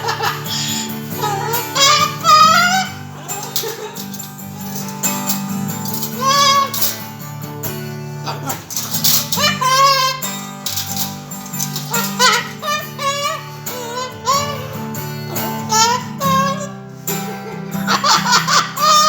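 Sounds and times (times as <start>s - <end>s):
parrot singing: 0.0s - 3.8s, 4.6s - 7.1s, 8.2s - 16.8s, 18.0s - 19.0s
acoustic guitar strumming: 0.0s - 19.0s.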